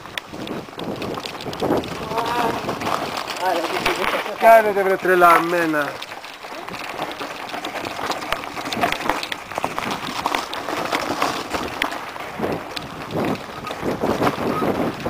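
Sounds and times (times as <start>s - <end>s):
mountain bike clattering over stones: 0.0s - 15.0s.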